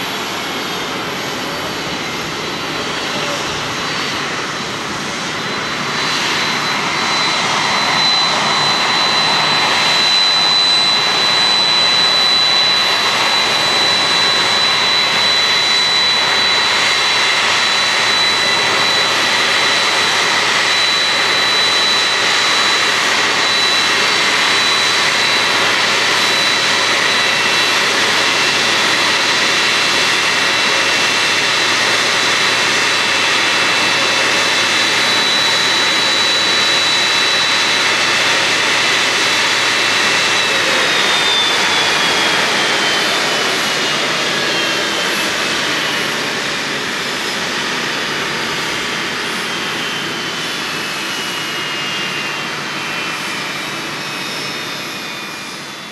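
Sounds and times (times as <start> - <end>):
jet engines rushing with high whine: 0.0 - 55.9.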